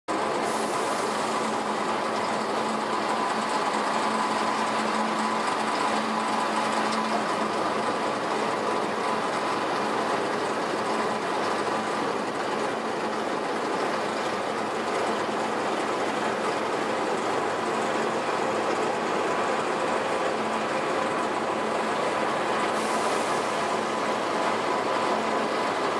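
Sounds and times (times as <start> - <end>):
engine drone: 0.1 - 25.9
rushing water: 0.1 - 25.9.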